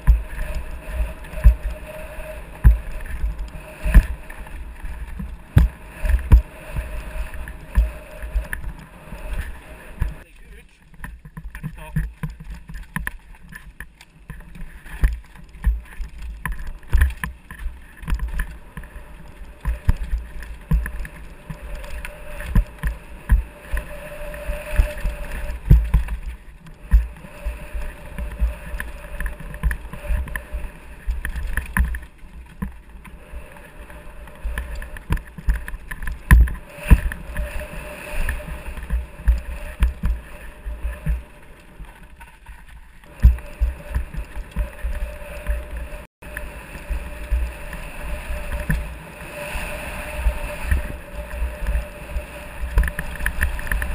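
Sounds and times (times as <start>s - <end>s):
mountain bike rattling on trail: 0.0s - 53.9s
wind rumble on microphone: 0.0s - 53.9s.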